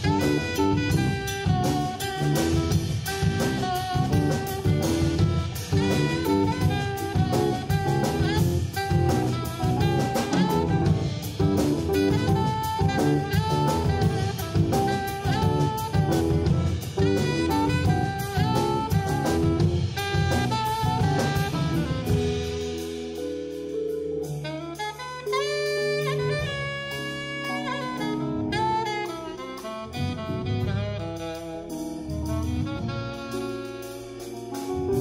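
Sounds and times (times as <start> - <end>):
drum kit playing: 0.0 - 35.0
tenor saxophone solo: 0.0 - 35.0.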